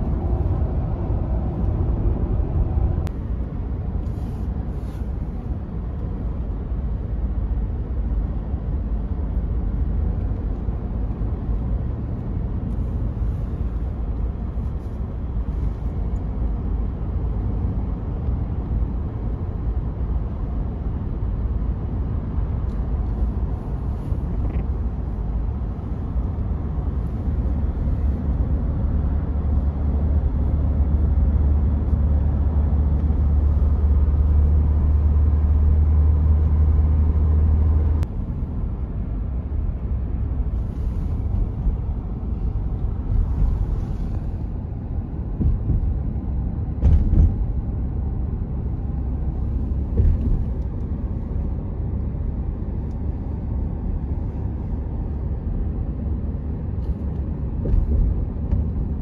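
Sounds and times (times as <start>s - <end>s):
vehicle cabin road rumble: 0.0s - 59.0s.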